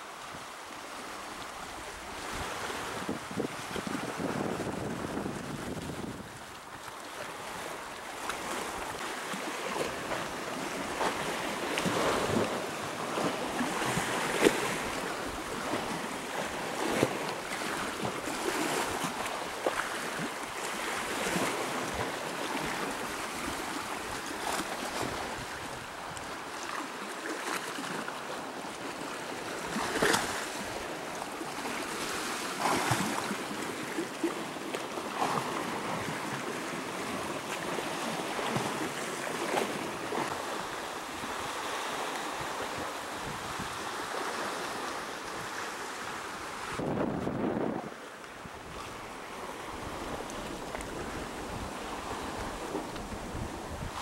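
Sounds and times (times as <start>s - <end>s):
waves splashing at shoreline: 0.0s - 54.0s.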